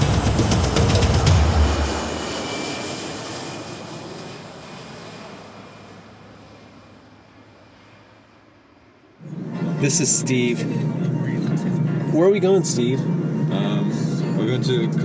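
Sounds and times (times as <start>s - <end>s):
airplane engine noise: 0.0s - 15.0s.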